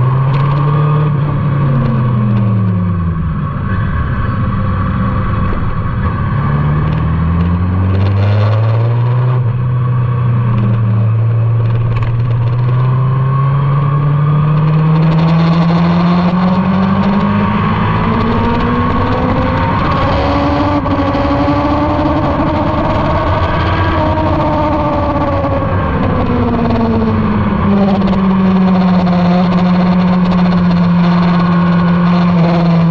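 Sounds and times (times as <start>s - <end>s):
motorcycle engine under load: 0.0s - 32.9s.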